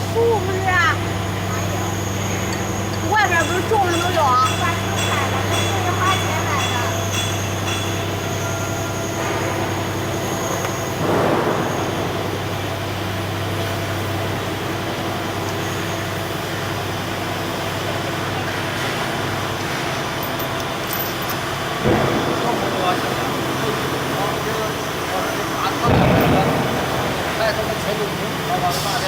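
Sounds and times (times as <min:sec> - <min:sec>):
wood chipper droning: 0:00.0 - 0:29.0.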